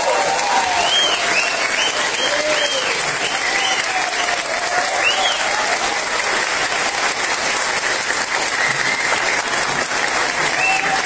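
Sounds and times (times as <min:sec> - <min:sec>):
short calls from audience: 0:00.0 - 0:06.8, 0:08.4 - 0:11.0
audience applauding: 0:00.0 - 0:11.0.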